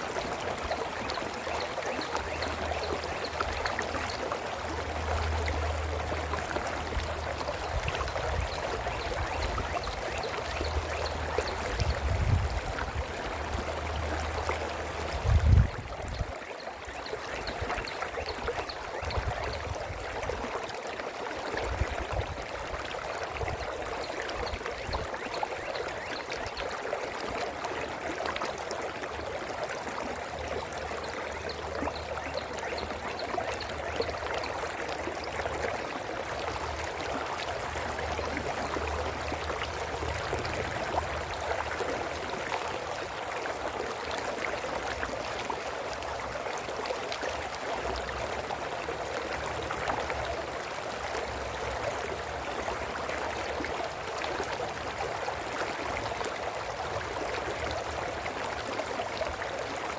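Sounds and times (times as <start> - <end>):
brook babbling over stones: 0.0 - 59.9.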